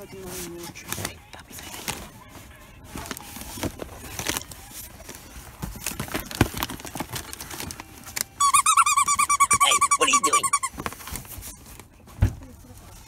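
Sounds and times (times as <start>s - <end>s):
rustling of plush toys: 0.0s - 13.0s.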